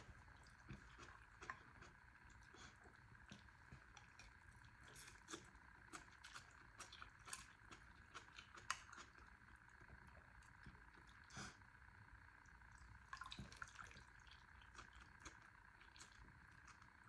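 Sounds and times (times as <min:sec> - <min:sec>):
small eating clicks: 0:00.0 - 0:11.4, 0:12.4 - 0:17.0
low room hum: 0:00.0 - 0:17.0.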